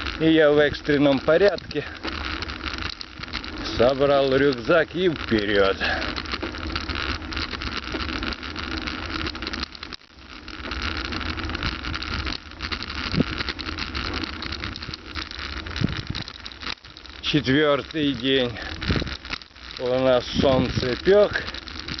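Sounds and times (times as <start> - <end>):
bicycle rattling and clicking: 0.0 - 22.0
wind rumbling on microphone: 0.0 - 22.0.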